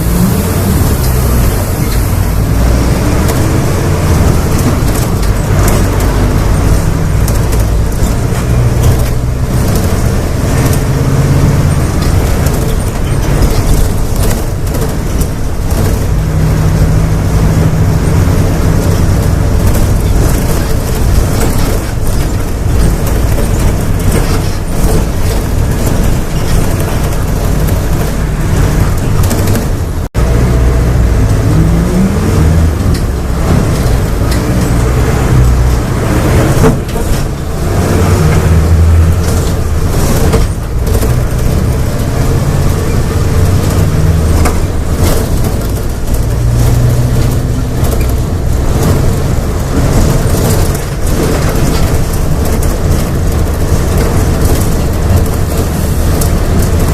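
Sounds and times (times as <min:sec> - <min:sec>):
bus diesel engine revving: 0:00.0 - 0:56.9.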